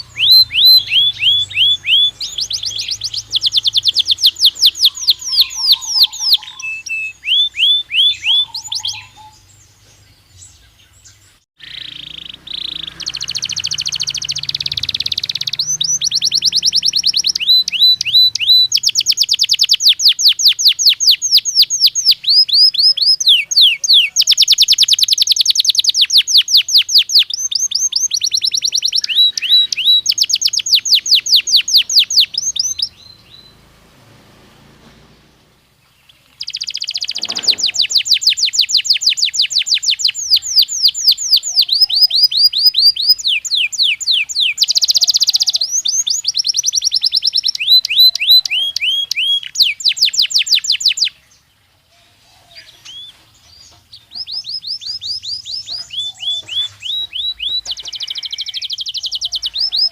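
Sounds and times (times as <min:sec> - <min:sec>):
canary singing trilled notes: 0:00.0 - 0:51.4, 0:52.5 - 0:59.9.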